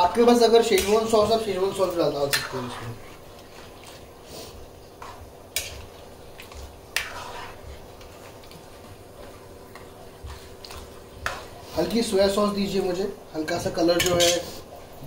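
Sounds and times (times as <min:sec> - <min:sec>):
spoon stirring food in wok: 0:00.0 - 0:12.4.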